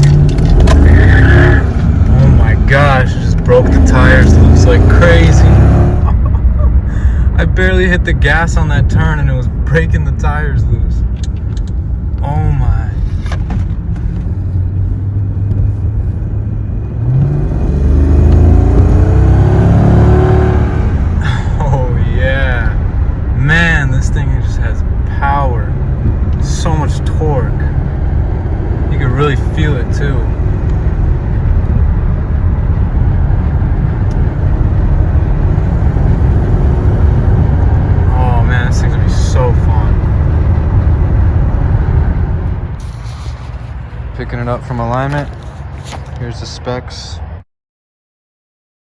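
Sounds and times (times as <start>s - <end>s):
car engine accelerating: 0.0s - 47.1s
tyre and road noise: 0.0s - 47.4s.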